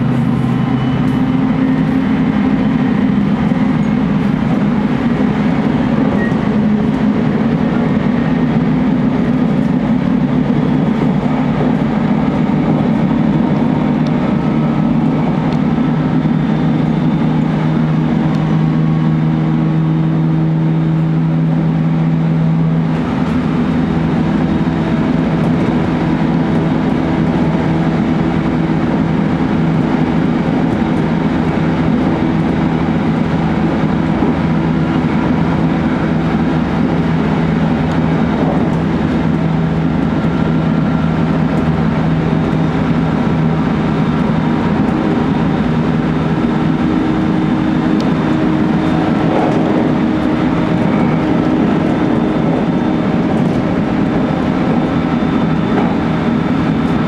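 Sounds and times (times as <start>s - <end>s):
train motor hum: 0.0s - 57.0s
train wheels rumbling on rail: 0.0s - 57.0s.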